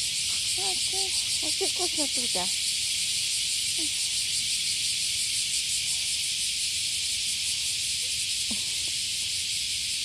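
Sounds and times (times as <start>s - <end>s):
cicadas buzzing: 0.0s - 10.0s.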